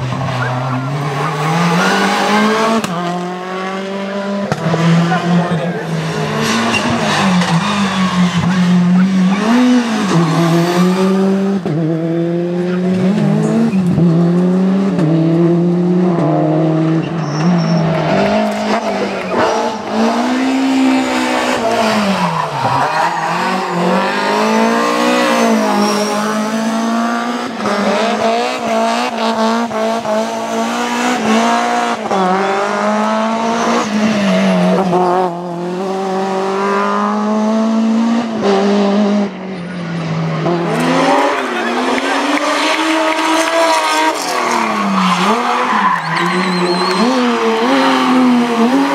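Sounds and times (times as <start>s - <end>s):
cars passing close by: 0.0s - 48.9s
rally car engines revving: 0.0s - 48.9s.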